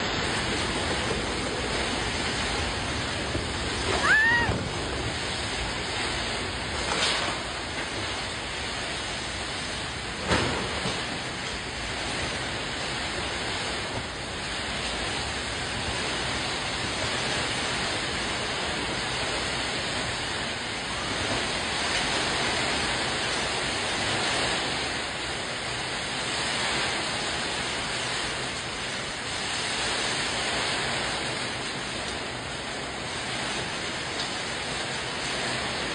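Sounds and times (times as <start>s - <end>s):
rain: 0.0s - 35.9s
wind roaring: 0.0s - 35.9s.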